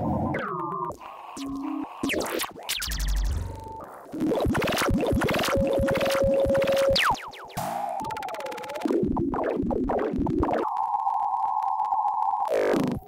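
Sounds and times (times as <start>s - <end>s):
glitchy synth effects: 0.0s - 13.0s.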